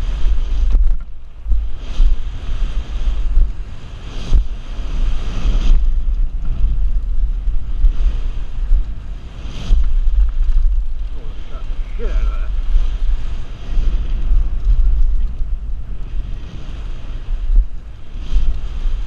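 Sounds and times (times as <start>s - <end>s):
low rumble: 0.0s - 19.0s
wind buffeting microphone: 0.0s - 19.0s.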